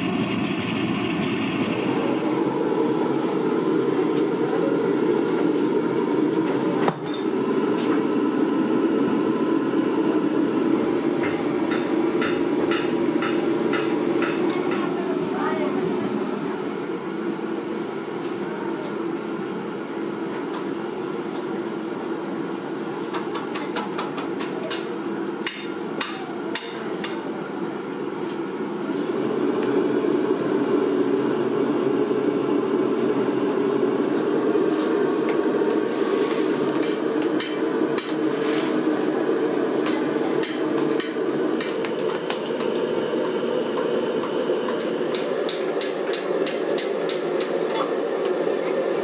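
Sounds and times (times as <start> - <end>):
steady machine hum: 0.0 - 22.7, 27.6 - 49.0.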